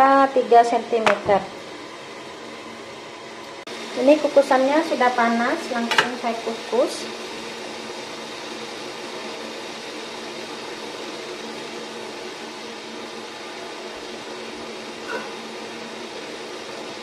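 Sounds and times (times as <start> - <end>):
steamer pot hissing: 0.0 - 17.0.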